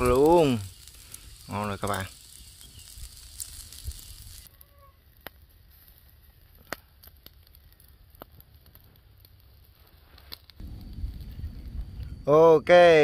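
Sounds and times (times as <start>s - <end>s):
faint sizzling hiss: 0.0s - 13.0s
fire crackling and popping: 0.0s - 13.0s.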